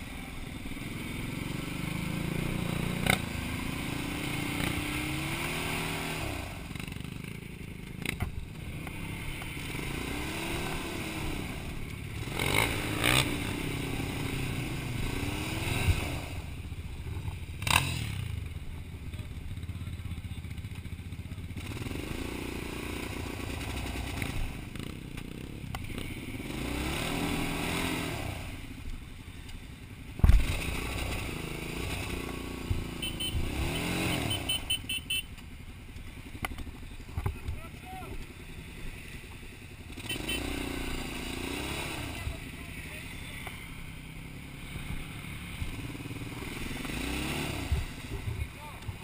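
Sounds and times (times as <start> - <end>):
quad bike engine revving: 0.0 - 29.5, 30.1 - 49.0.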